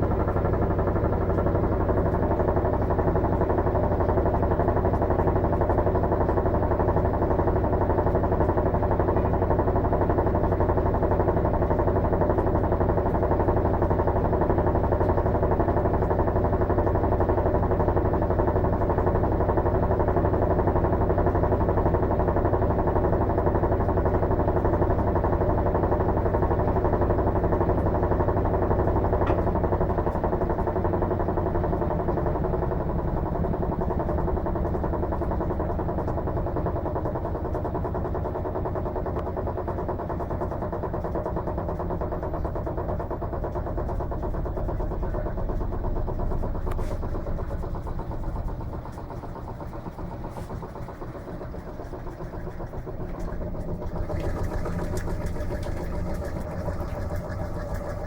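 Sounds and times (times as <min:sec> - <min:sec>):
washing machine spinning hum: 0:00.0 - 0:58.0.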